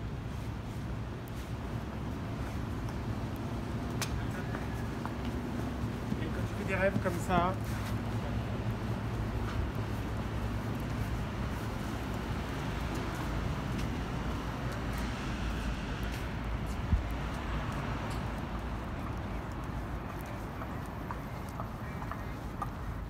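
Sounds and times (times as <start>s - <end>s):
city traffic: 0.0s - 23.0s.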